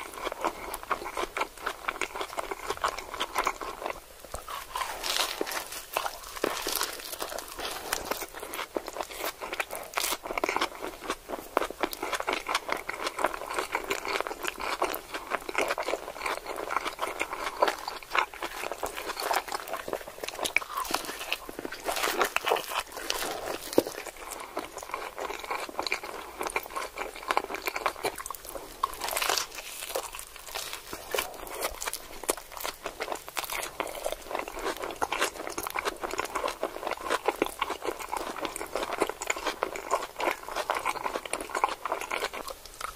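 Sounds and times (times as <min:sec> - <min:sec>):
crunchy taco chewing: 0:00.0 - 0:42.9.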